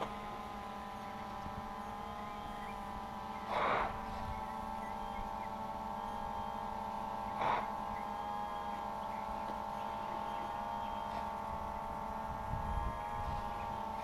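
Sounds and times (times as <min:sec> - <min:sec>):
quadcopter propellers humming: 0:00.0 - 0:14.0.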